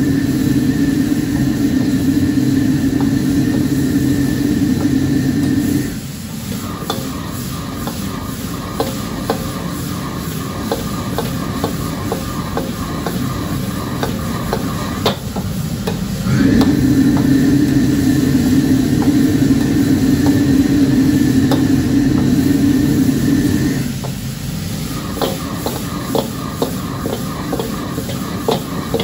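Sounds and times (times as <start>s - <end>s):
mechanical drone with high whine: 0.0s - 29.0s
beans sizzling in a wok: 5.7s - 29.0s.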